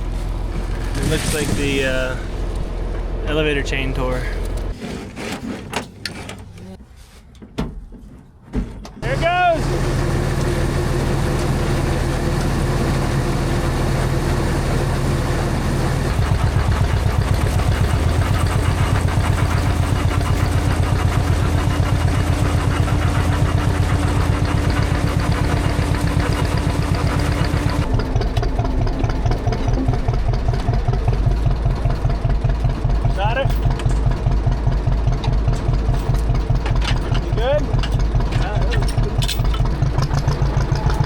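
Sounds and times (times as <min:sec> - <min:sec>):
tractor engine running: 0:00.0 - 0:04.8, 0:09.0 - 0:41.0.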